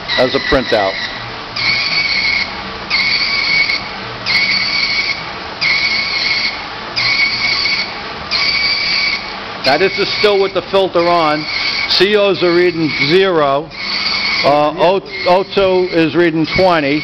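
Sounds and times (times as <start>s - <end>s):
printer buzzing: 0.0s - 17.0s.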